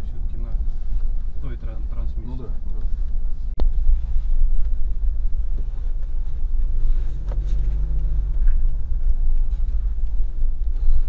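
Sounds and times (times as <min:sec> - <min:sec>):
car interior engine rumble: 0:00.0 - 0:11.0.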